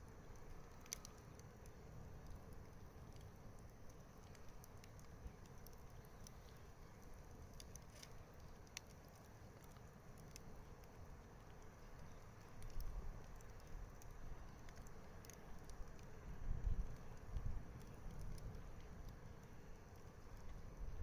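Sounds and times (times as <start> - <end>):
campfire crackling faintly: 0.0 - 21.0.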